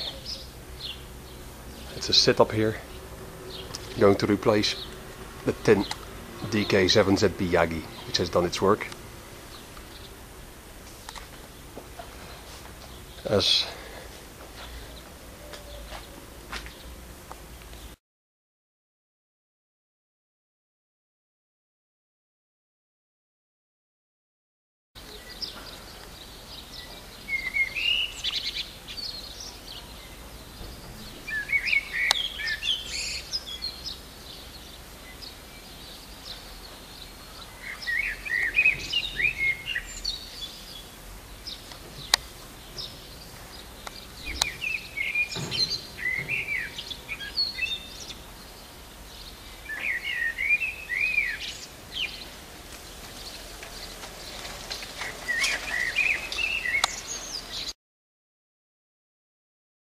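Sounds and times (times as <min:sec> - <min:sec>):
songbird singing: 0:00.0 - 0:18.0, 0:25.0 - 0:57.8.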